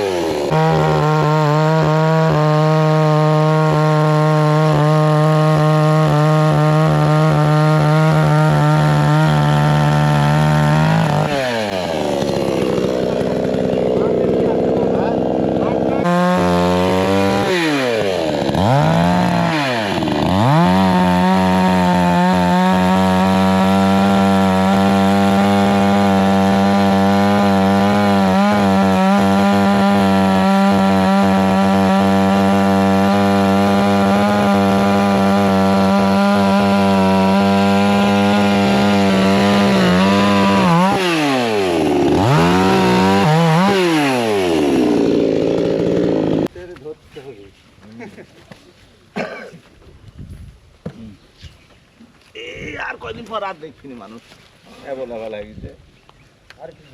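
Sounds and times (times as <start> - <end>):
chainsaw cutting wood: 0.0 - 46.5.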